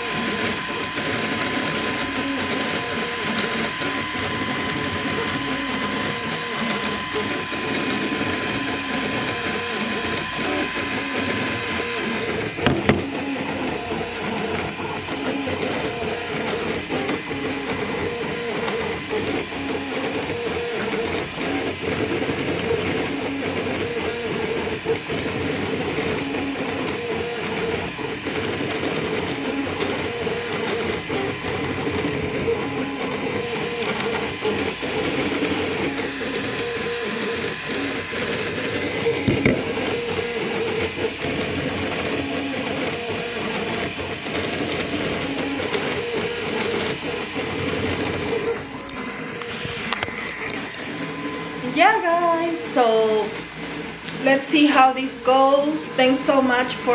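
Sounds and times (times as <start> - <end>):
printer stepper motors whirring: 0.0 - 56.9.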